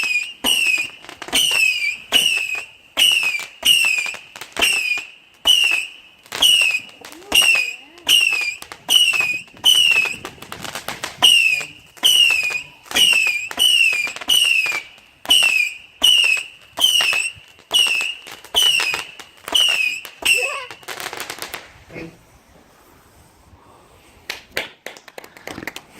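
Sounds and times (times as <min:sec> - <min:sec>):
whistling firework shots: 0:00.0 - 0:21.7.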